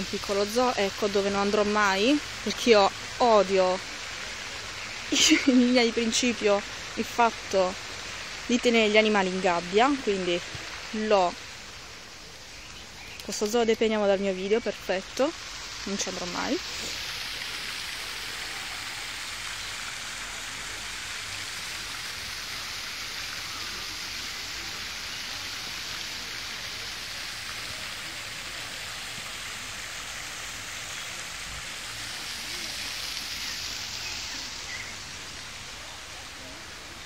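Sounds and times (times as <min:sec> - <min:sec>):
water splashing: 0:00.0 - 0:12.4, 0:13.0 - 0:37.0.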